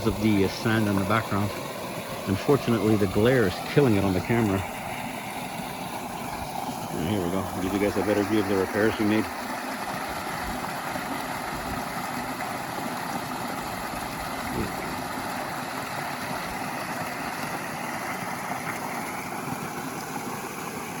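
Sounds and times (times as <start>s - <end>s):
water rushing into a stream: 0.0s - 21.0s.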